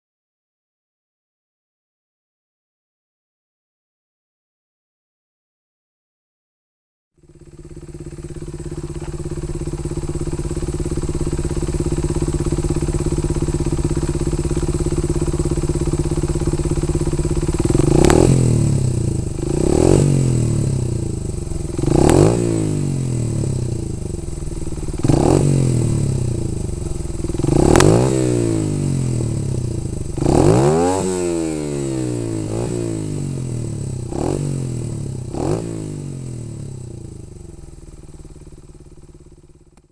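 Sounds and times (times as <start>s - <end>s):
motorcycle engine idling and revving: 7.2s - 39.9s.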